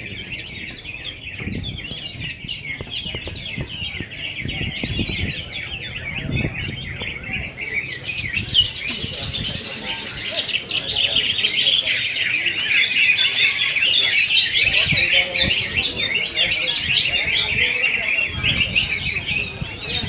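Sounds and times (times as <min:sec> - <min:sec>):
crowd murmur: 0:00.0 - 0:20.0
songbirds singing: 0:00.0 - 0:20.0.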